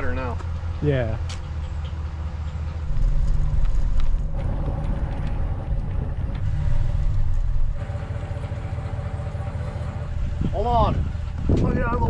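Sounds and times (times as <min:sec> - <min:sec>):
steady hum: 0:00.0 - 0:12.0
vehicle engine rumbling: 0:00.0 - 0:12.0.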